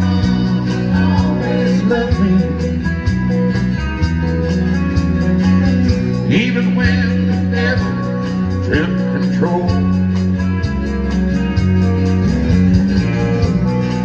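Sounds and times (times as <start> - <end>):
live country band playing: 0.0 - 14.0.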